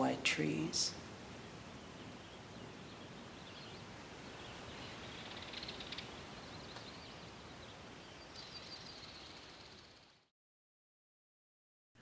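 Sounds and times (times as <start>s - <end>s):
steady background hiss: 0.0s - 10.2s.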